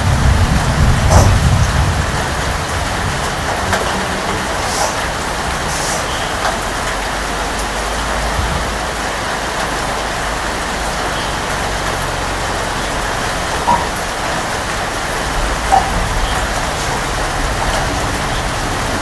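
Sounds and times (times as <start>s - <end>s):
low continuous rumble: 0.0s - 19.0s
rain falling: 0.0s - 19.0s.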